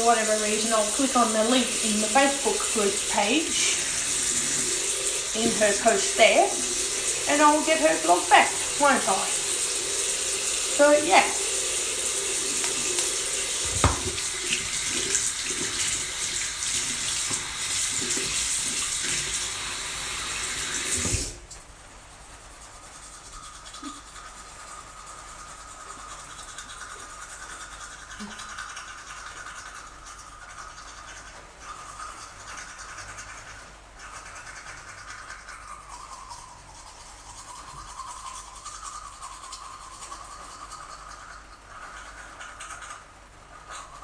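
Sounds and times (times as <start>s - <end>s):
electric toothbrush buzzing: 0.0s - 21.3s, 23.1s - 33.4s, 34.0s - 43.0s.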